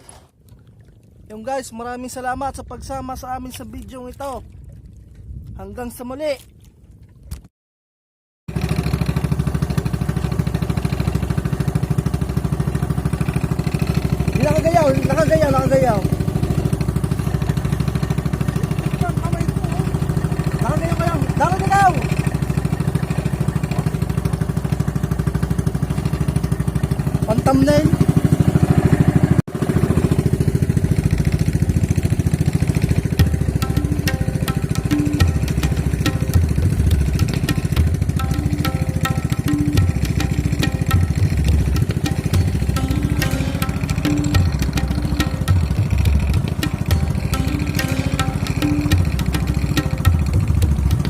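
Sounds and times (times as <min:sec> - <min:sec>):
boat engine puttering: 0:08.5 - 0:51.0.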